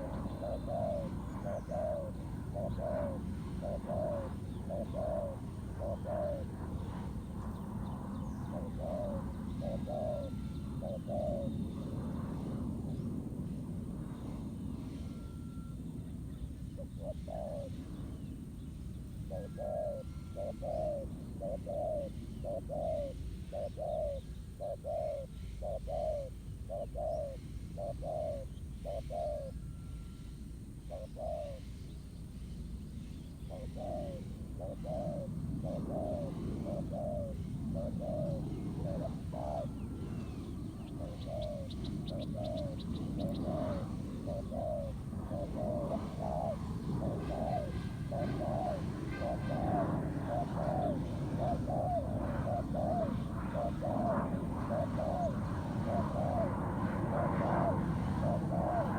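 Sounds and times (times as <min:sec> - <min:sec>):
dove cooing: 0:00.0 - 0:13.0, 0:16.6 - 0:18.3, 0:19.0 - 0:31.9, 0:33.3 - 0:58.9.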